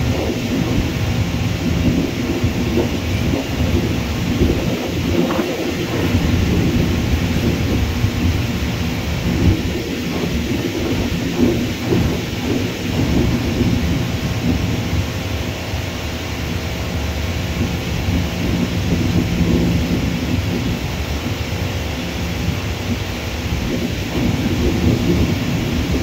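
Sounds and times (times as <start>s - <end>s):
distant jet airliners rumbling: 0.0s - 26.0s.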